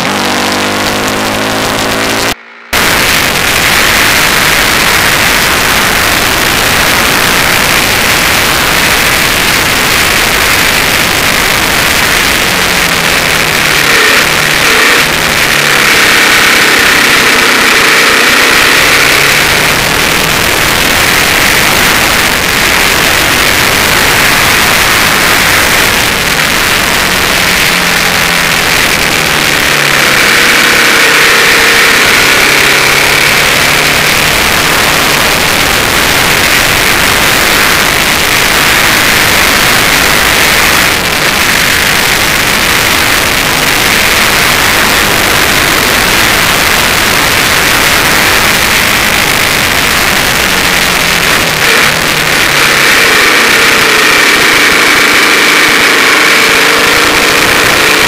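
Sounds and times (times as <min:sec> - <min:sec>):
motorcycle engine running hard: 0:00.0 - 0:58.0.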